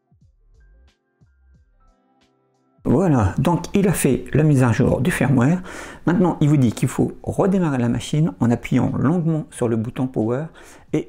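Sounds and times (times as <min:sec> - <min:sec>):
faint background music with beat: 0:00.0 - 0:05.4, 0:06.1 - 0:11.0.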